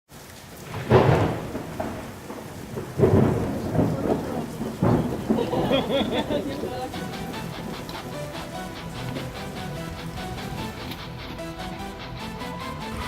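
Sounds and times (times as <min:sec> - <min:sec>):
steady hiss like rain: 0:00.1 - 0:13.0
thunder rumbling: 0:00.5 - 0:13.0.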